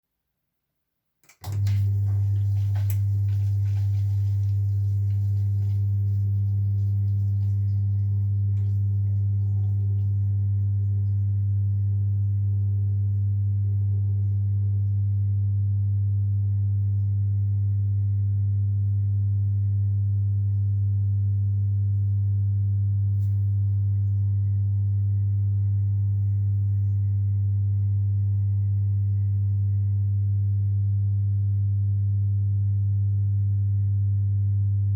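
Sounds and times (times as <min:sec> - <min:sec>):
washing machine spin hum: 0:01.2 - 0:34.9.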